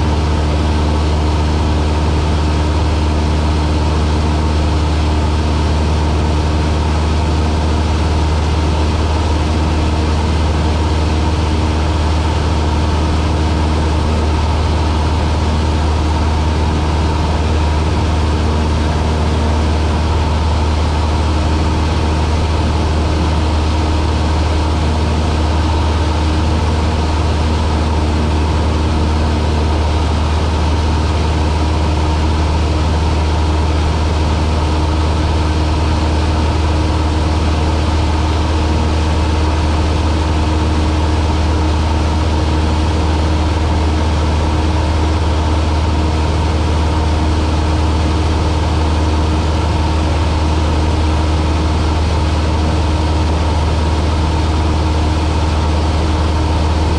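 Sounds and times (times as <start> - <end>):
light aircraft engine droning: 0.0 - 56.9.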